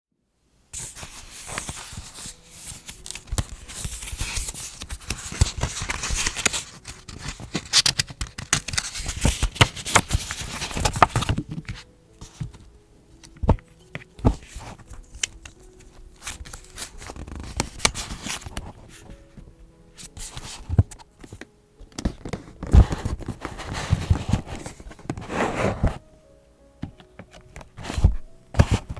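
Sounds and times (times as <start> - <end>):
paper rustling and crinkling: 0.8 - 26.1, 27.0 - 28.9.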